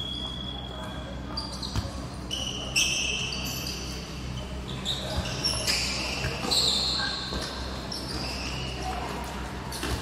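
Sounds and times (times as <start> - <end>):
sports shoes squeaking on tiles: 0.0 - 9.0.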